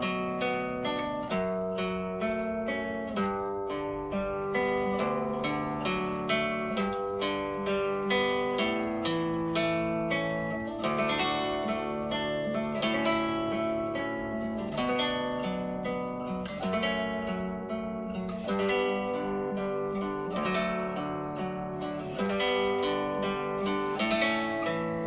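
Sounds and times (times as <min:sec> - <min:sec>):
acoustic guitar picking: 0:00.0 - 0:25.0.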